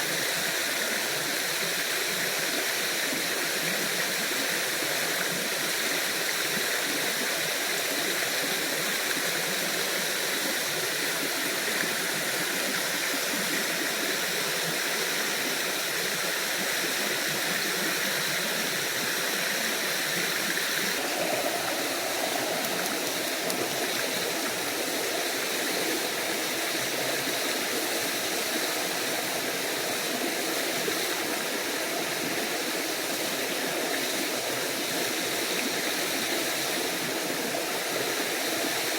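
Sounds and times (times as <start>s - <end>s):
waterfall and stream rushing: 0.0s - 38.9s.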